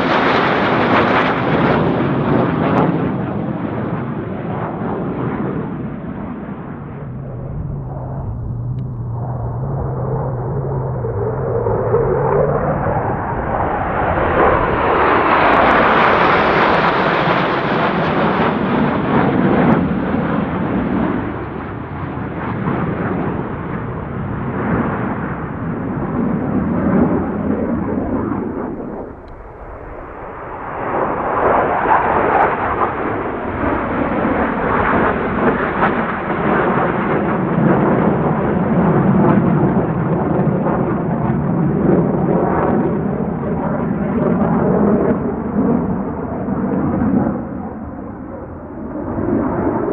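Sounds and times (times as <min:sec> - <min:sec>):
military jet flying past: 0:00.0 - 0:49.9.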